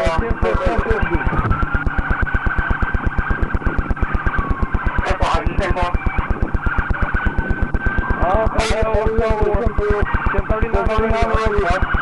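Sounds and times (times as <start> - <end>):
police siren wailing: 0.0 - 12.0
rapid low pulsing: 0.0 - 12.0.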